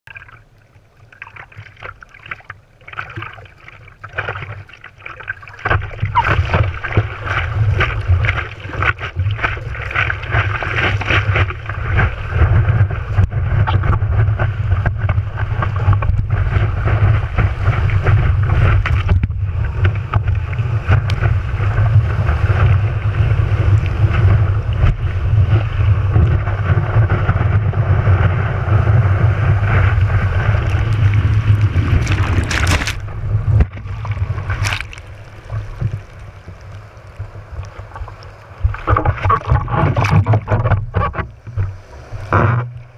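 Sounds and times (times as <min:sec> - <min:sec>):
water rushing and splashing: 0:00.0 - 0:42.9
water lapping: 0:00.1 - 0:42.9
wind buffeting microphone: 0:06.0 - 0:41.8.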